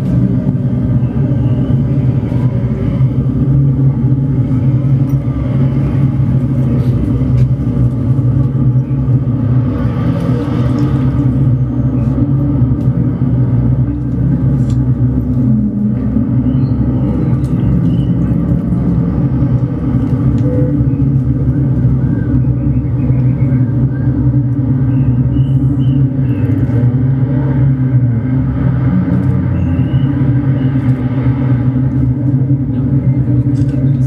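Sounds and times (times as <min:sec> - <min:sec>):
low rumbling drone: 0:00.0 - 0:34.0.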